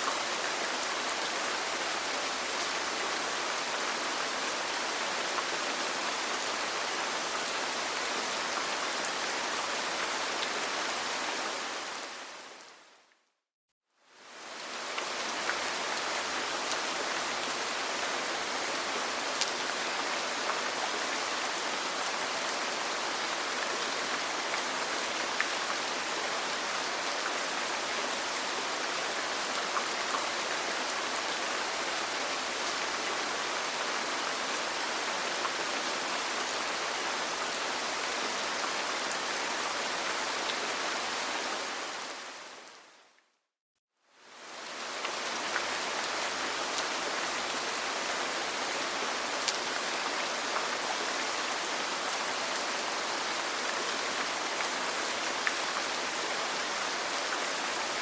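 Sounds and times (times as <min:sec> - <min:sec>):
rain falling on a roof: 0:00.0 - 0:13.2, 0:14.0 - 0:43.2, 0:44.1 - 0:58.0.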